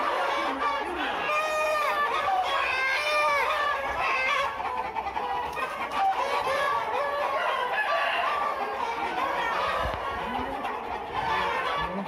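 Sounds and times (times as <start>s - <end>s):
roosters crowing: 0.0s - 5.0s, 5.6s - 10.6s
chickens clucking: 0.0s - 12.0s.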